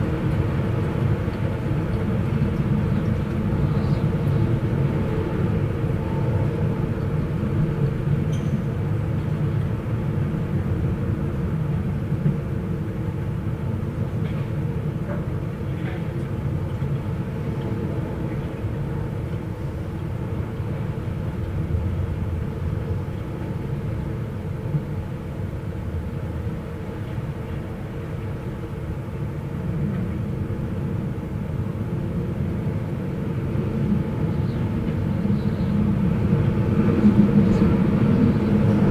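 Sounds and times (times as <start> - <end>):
rumbling wind and rain: 0.0 - 38.9.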